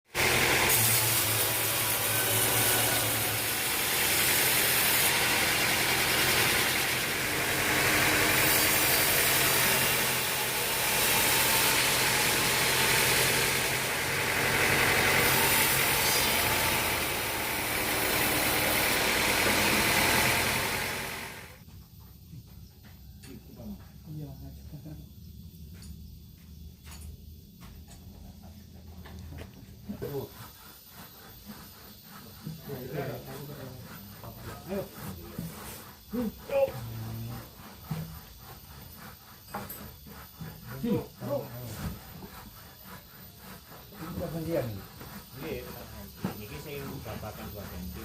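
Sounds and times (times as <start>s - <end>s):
loud hissing of sawmill machinery: 0.1s - 21.6s, 29.8s - 48.0s
sawmill engine hum: 0.1s - 21.6s, 30.9s - 48.0s.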